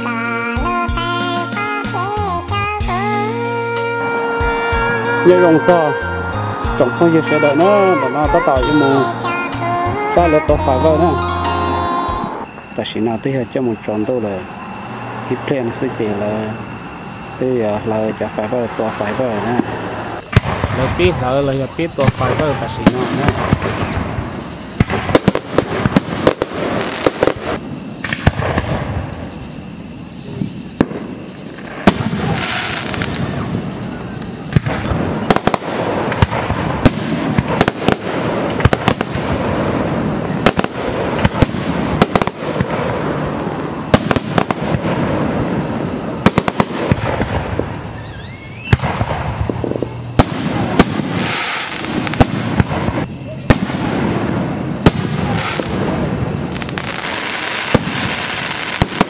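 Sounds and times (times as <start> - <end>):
fireworks bangs and crackle: 0.0 - 59.0
rising firework whistle: 2.8 - 59.0.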